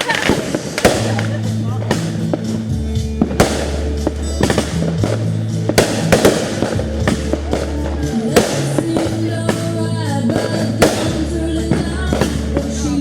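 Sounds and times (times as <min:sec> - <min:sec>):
fireworks banging: 0:00.0 - 0:13.0
music with bass and melody: 0:00.0 - 0:13.0.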